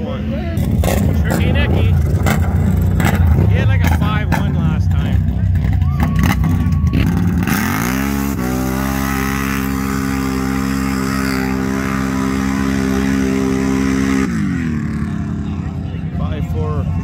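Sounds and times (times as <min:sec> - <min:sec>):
atv engine revving at full throttle: 0:00.0 - 0:17.0.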